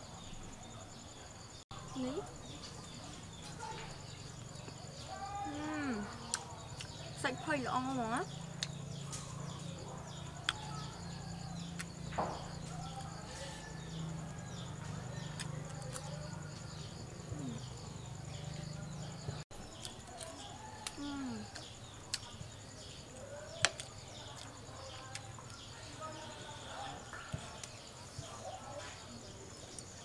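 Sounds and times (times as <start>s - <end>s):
birds chirping: 0.0s - 30.0s
high insect whine: 0.0s - 30.0s.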